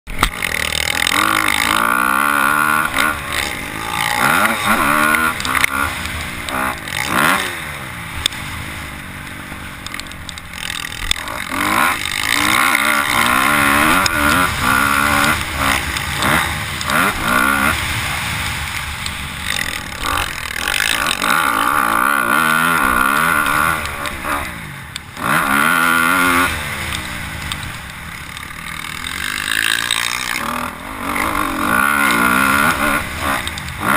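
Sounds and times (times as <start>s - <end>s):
motocross bikes revving: 0.1s - 33.9s.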